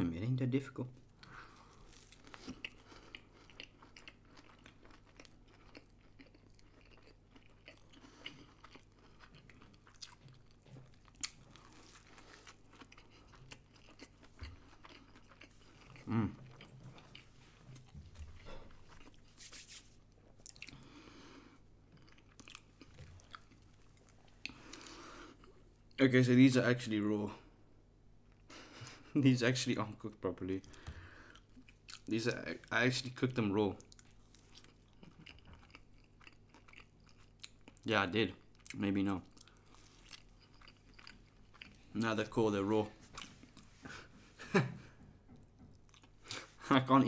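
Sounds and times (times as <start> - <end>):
person chewing food: 1.1 - 25.7, 30.7 - 32.1, 33.8 - 42.0, 42.9 - 46.6.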